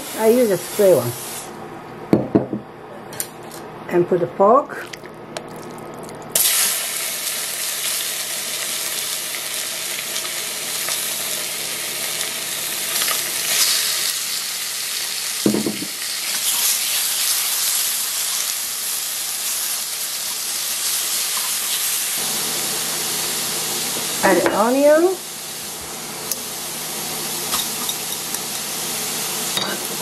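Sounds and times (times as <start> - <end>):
meat sizzling in hot oil: 5.6 - 30.0.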